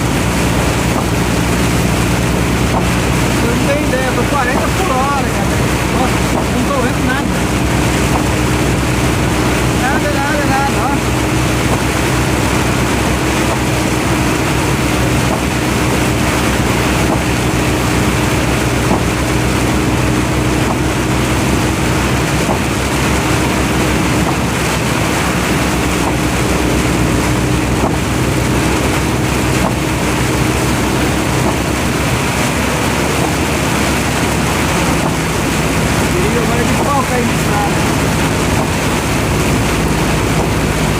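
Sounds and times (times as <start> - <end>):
road and wind noise: 0.0 - 40.9
vehicle engine running: 0.0 - 40.9.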